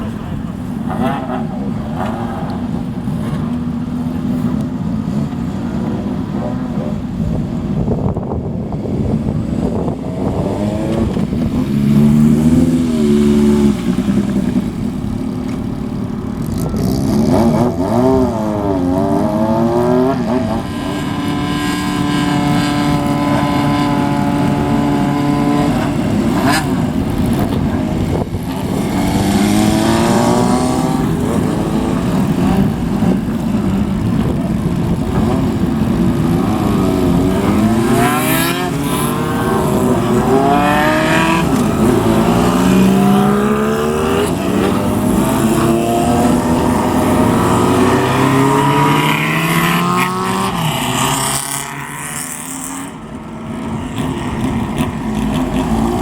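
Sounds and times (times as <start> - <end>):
motorcycles revving and pulling away: 0.0 - 56.0.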